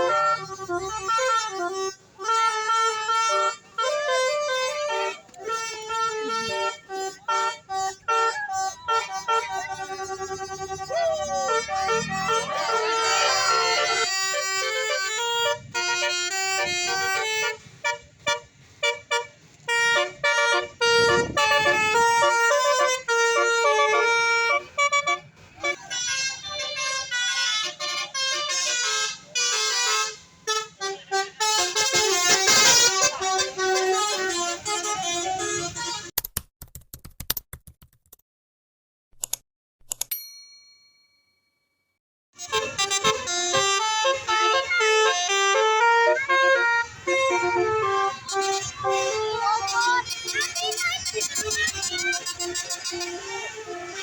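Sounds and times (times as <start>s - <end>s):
bus air horn playing melody: 0.0s - 36.1s, 42.4s - 54.0s.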